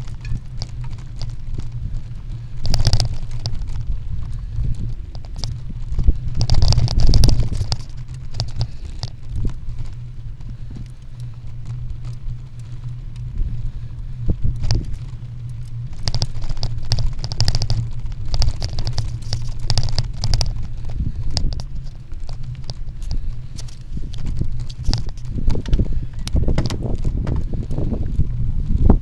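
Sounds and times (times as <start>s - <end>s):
camera rattling and knocking: 0.0s - 13.4s, 14.2s - 29.0s
low rumble of motion and wind: 0.0s - 29.0s.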